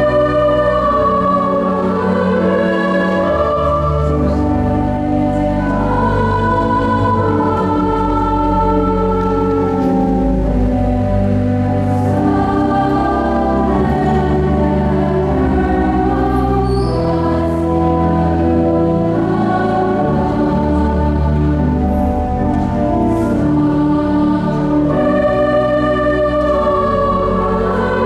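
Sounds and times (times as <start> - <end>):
choir singing: 0.0 - 28.0
instrumental accompaniment: 0.0 - 28.0.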